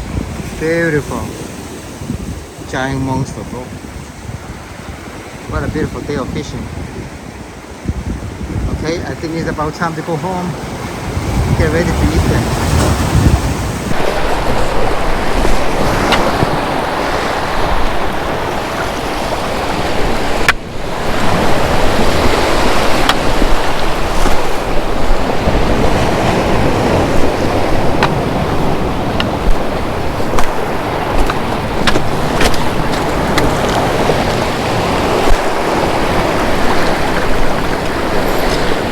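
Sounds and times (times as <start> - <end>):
ocean surf washing on shore: 0.0 - 38.9
wind buffeting microphone: 0.0 - 38.9.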